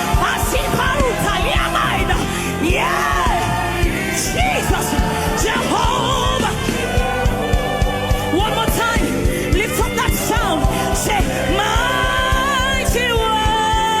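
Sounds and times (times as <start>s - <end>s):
band with steady drum beat: 0.0s - 14.0s
gospel singing voices: 0.0s - 14.0s.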